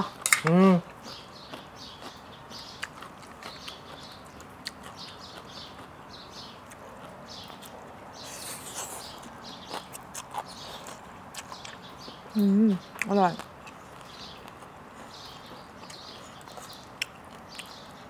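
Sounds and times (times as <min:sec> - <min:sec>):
soft chewing and mouth noises: 0:00.8 - 0:18.0.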